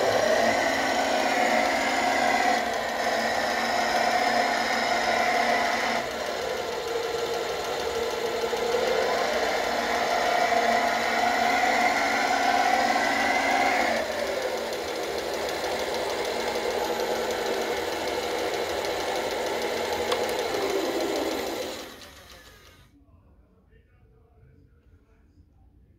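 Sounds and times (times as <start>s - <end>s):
simulated truck engine through speaker: 0.0s - 22.7s.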